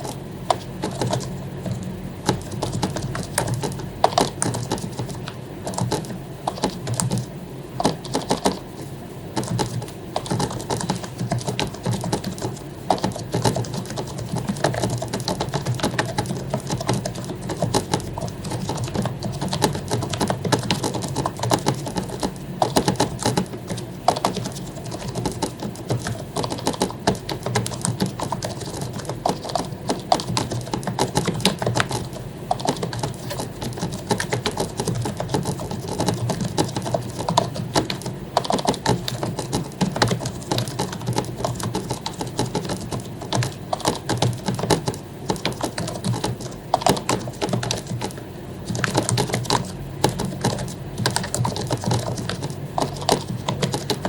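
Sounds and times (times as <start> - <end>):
keyboard typing: 0.0 - 54.0
steady low hum: 0.0 - 54.0.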